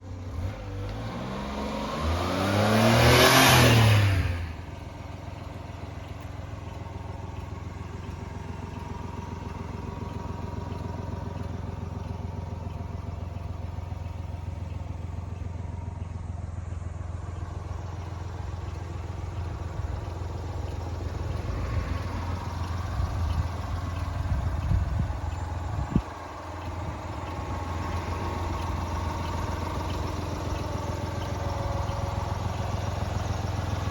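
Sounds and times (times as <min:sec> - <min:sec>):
small engine revving and idling: 0:00.0 - 0:33.9.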